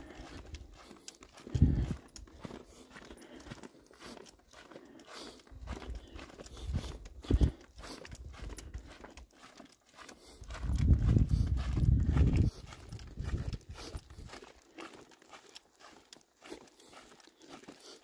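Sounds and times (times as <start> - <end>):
footsteps crunching on gravel: 0.0 - 18.0.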